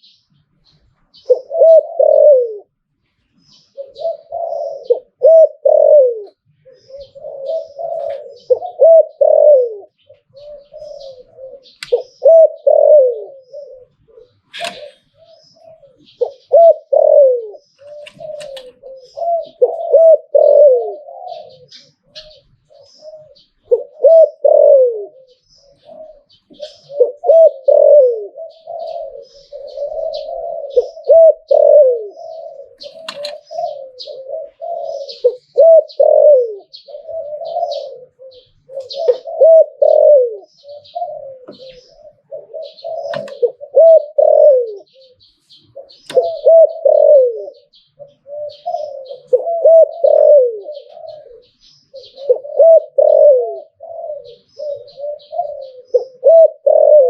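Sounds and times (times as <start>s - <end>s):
dove cooing: 0.0s - 57.0s
small birds chirping: 0.0s - 57.0s.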